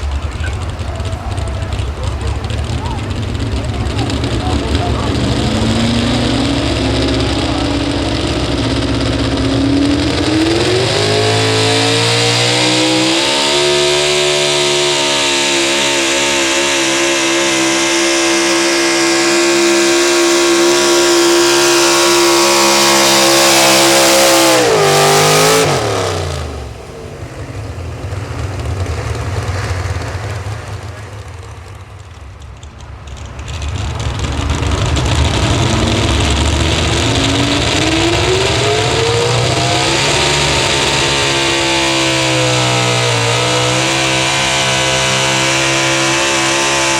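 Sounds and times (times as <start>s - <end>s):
truck engine at full throttle: 0.0s - 46.9s.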